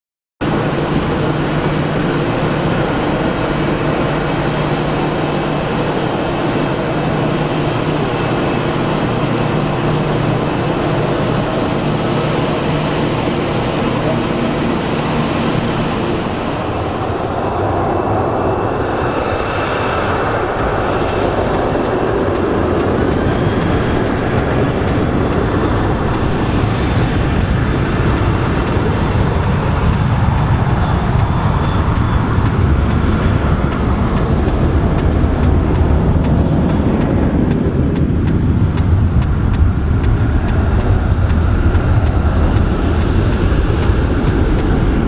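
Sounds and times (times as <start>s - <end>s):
jet engines roaring: 0.4s - 45.0s
low hum: 0.4s - 45.0s.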